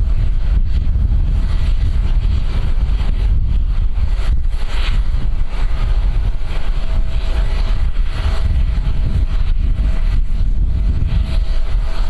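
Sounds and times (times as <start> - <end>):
jet engines whining: 0.0 - 12.0
strong gusty wind on microphone: 0.0 - 12.0.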